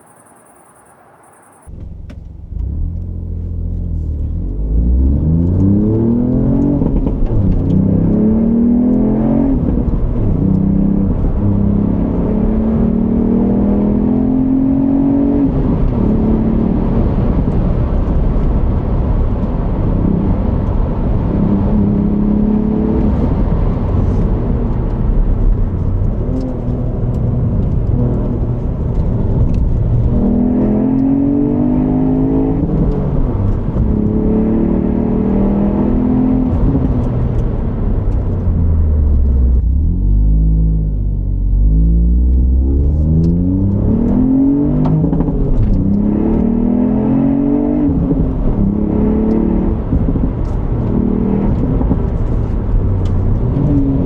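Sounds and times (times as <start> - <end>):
car engine revving hard: 4.2 - 40.9, 41.5 - 54.0.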